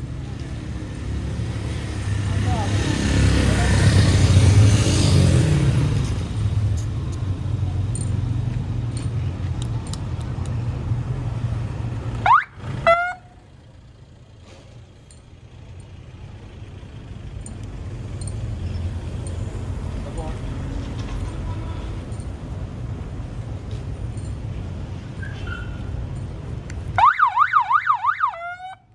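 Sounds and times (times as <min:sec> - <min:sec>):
street traffic: 0:00.0 - 0:28.9.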